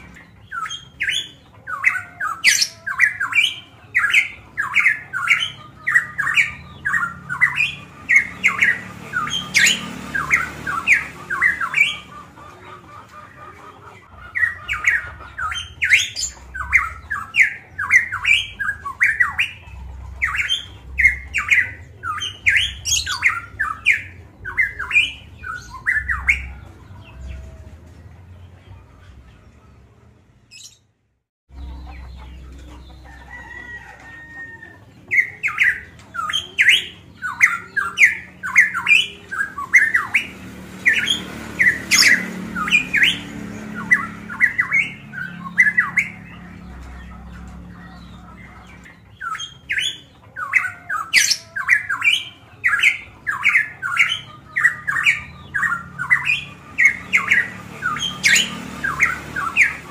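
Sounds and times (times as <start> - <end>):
bird squawky calls: 0.0 - 27.4, 34.6 - 59.9.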